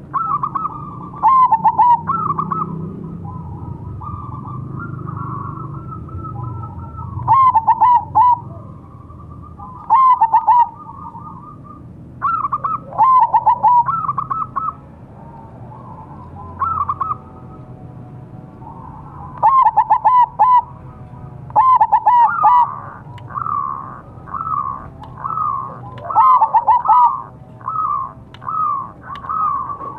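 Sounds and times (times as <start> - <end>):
dove cooing: 0.0 - 17.6, 18.6 - 29.9.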